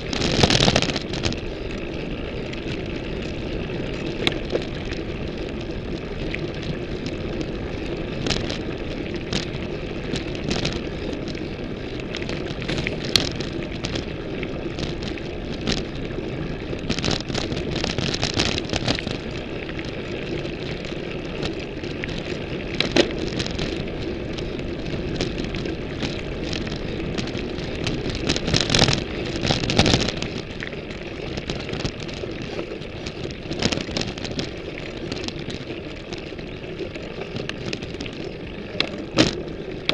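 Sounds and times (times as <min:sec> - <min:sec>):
bike clattering and rattling: 0:00.0 - 0:39.9
bike rolling and wind noise: 0:00.0 - 0:39.9.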